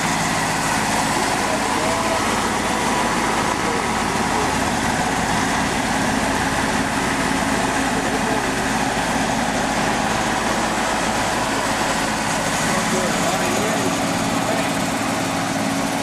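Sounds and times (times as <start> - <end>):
drilling rig engine and hydraulics: 0.0 - 16.0.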